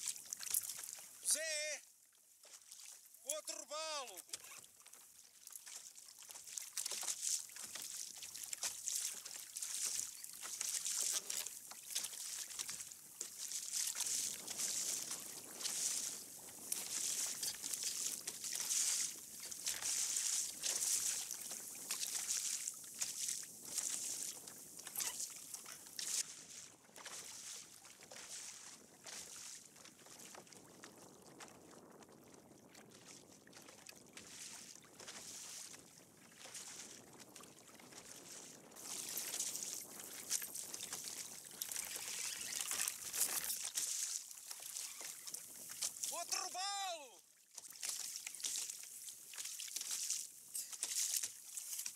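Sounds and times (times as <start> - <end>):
water splashing against hull: 2.5 - 46.8.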